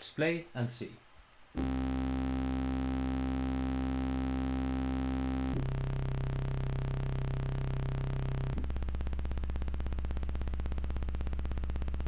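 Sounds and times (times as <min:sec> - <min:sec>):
sustained synthesizer tone: 0:01.6 - 0:12.0.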